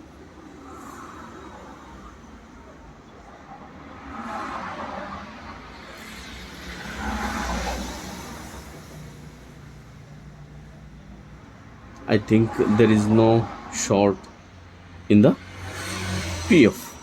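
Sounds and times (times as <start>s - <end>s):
traffic passing by: 0.0s - 17.0s.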